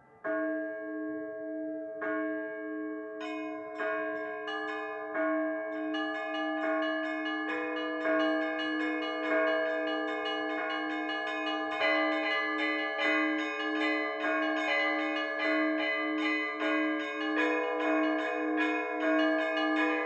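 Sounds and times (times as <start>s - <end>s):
small high church bells: 0.0s - 20.0s
deep bell struck steadily: 0.3s - 20.0s.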